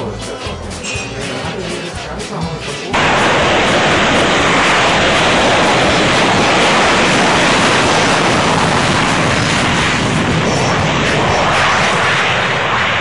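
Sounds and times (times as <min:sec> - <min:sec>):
jet engines roaring: 0:00.8 - 0:13.0.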